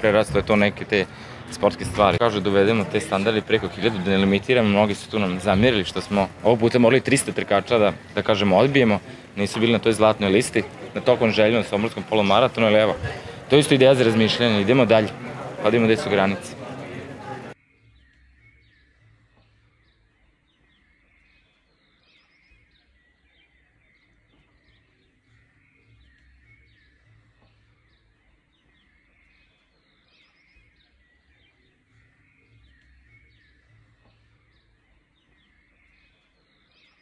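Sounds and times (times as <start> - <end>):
faint birds chirping: 0.0 - 37.0.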